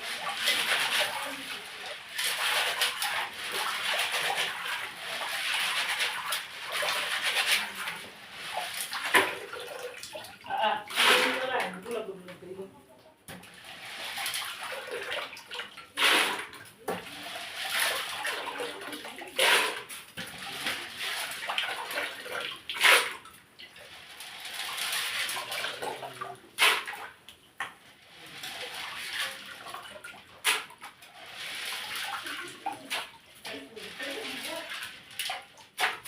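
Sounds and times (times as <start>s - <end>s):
water splashing and sloshing: 0.0s - 12.4s, 13.2s - 36.0s.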